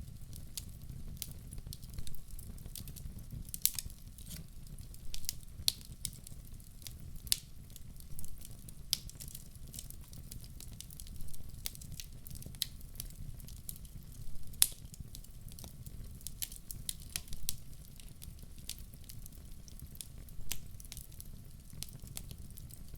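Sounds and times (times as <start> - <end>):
low rumble of flames: 0.0 - 22.9
wood fire crackling and popping: 0.0 - 22.9.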